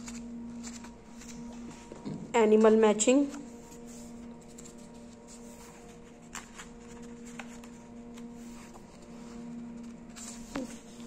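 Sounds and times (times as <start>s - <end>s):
paper rustling: 0.0s - 11.0s
steady low hum: 0.0s - 11.0s.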